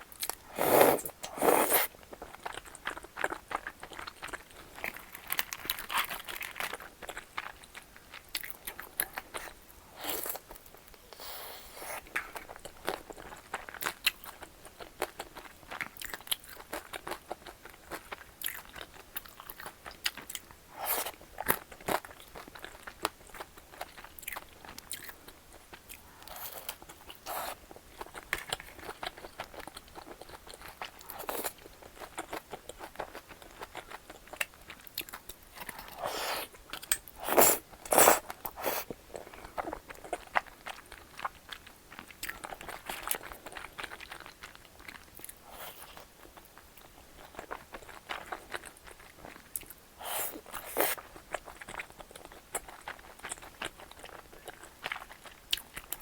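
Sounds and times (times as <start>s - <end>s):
person chewing crunchy food: 0.1s - 56.0s.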